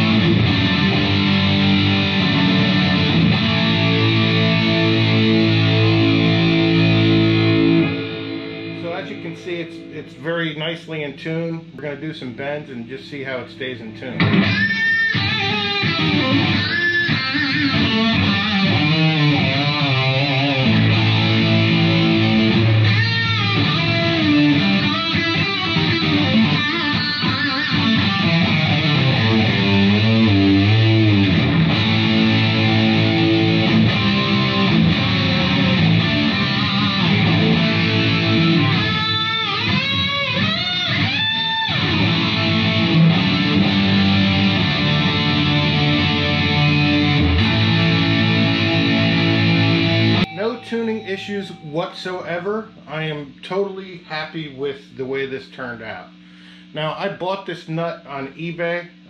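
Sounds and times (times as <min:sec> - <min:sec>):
electric guitar with string bends: 0:00.0 - 0:59.0.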